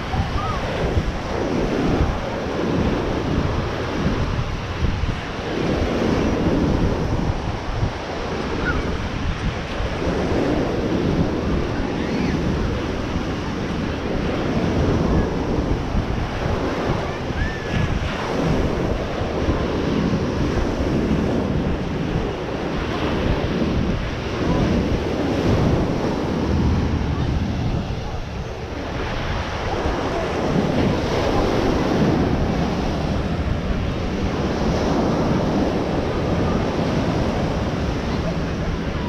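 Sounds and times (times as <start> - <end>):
ocean surf washing onto beach: 0.0 - 39.0
wind buffeting microphone: 0.0 - 39.0.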